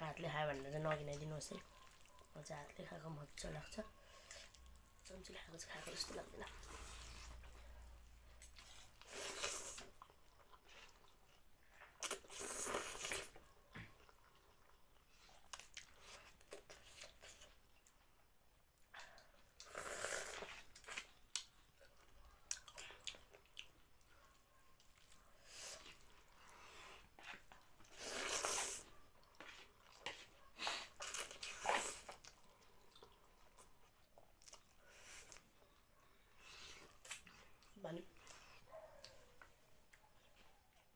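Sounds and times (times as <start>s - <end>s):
chewing and crunching food: 0.1s - 40.9s.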